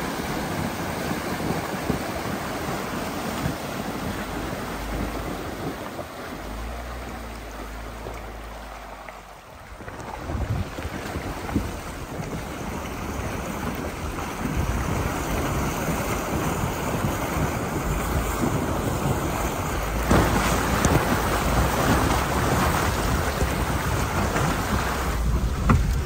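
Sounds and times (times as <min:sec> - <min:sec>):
low engine rumble: 0:00.0 - 0:26.0
water sloshing around tyres: 0:00.0 - 0:26.0.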